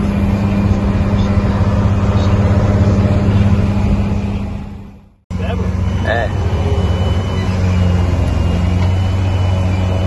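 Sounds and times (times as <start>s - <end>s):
road and wind noise: 0.0s - 10.0s
truck diesel engine drone: 0.0s - 10.0s.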